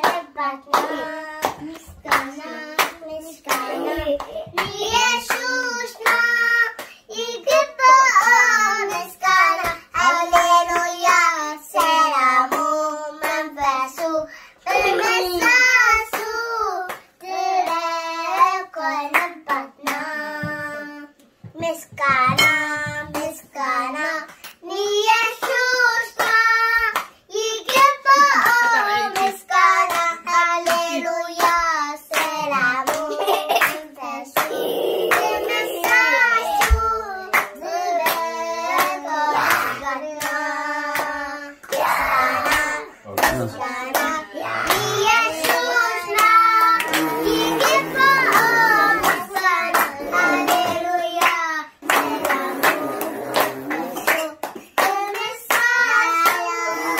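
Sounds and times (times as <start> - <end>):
hand claps: 0.0 - 14.1, 18.4 - 56.9
children singing: 0.0 - 21.7, 22.3 - 56.9.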